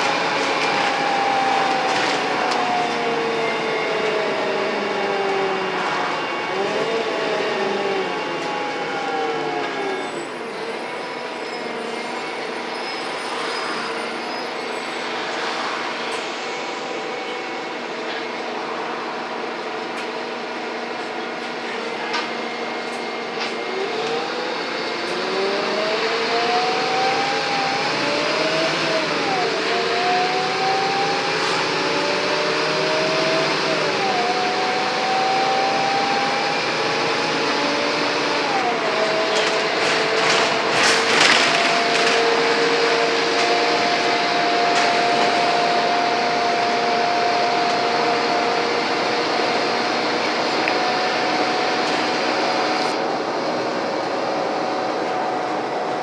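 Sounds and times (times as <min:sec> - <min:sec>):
bus engine whine accelerating: 0:00.0 - 0:56.0.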